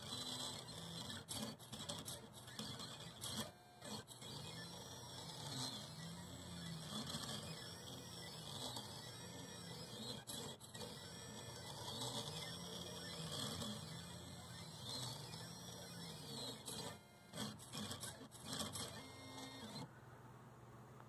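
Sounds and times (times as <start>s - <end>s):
pen plotter motors whining: 0.0s - 19.9s.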